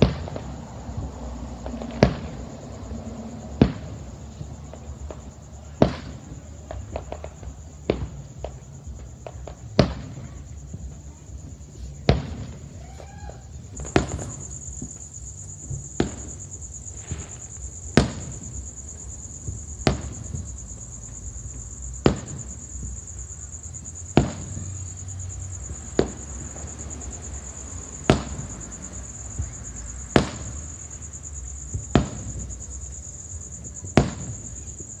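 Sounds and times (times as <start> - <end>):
crickets chirping: 0.0 - 35.0
distant firework bangs: 0.0 - 35.0.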